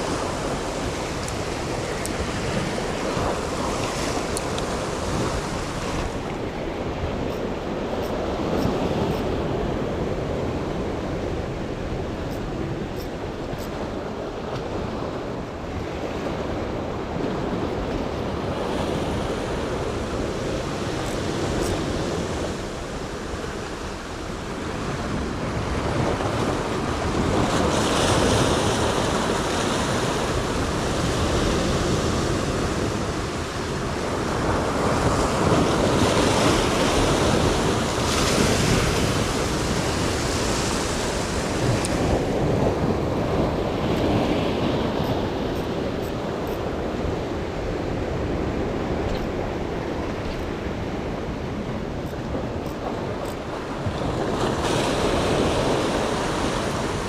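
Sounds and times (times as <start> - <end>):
sea surf breaking: 0.0 - 57.0
wind on microphone: 0.0 - 57.0.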